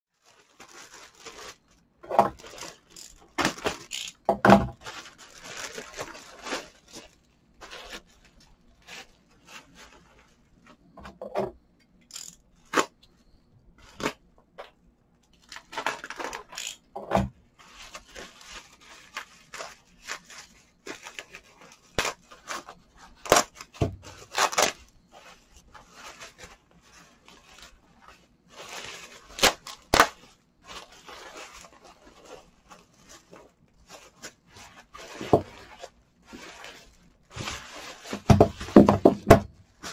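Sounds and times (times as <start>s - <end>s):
plastic packaging crinkling: 0.1s - 10.9s, 15.3s - 16.8s, 17.6s - 39.9s.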